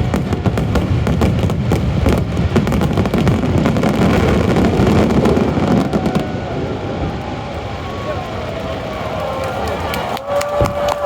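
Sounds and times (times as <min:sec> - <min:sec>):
rumble of firework booms: 0:00.0 - 0:08.9
fireworks crackling: 0:00.0 - 0:11.0.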